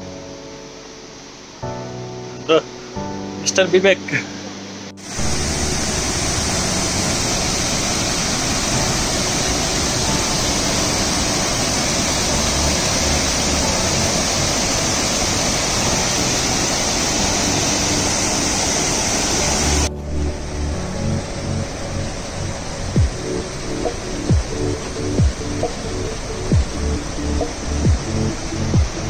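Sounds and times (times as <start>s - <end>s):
rushing water: 0.0s - 29.0s.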